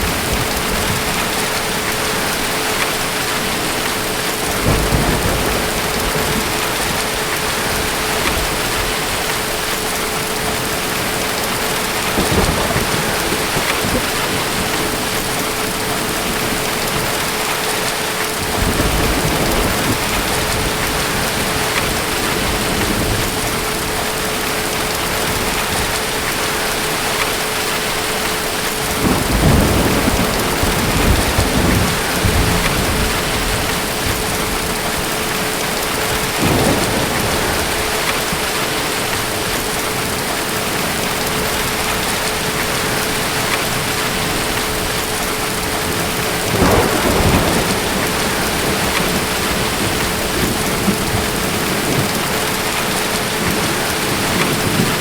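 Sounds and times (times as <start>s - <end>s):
distant thunder rumbling: 0.0s - 27.2s, 28.5s - 55.0s
heavy rain: 0.0s - 55.0s.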